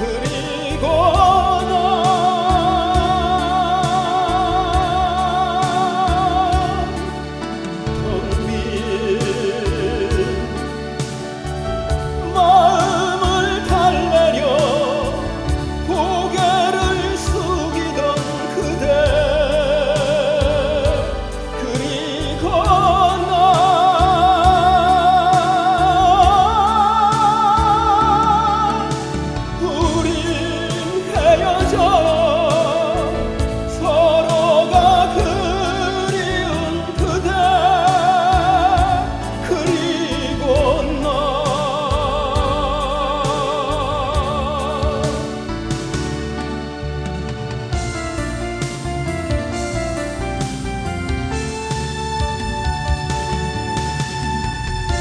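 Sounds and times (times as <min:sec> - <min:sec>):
tenor singing operatically: 0:00.0 - 0:47.8
backing accompaniment: 0:00.0 - 0:55.0.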